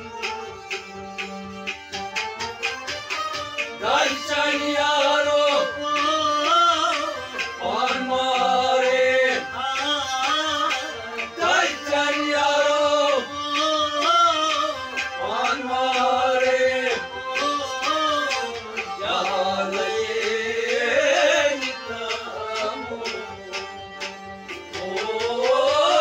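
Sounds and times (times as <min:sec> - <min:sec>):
drum accompaniment: 0:00.0 - 0:26.0
harmonium playing folk melody: 0:00.0 - 0:26.0.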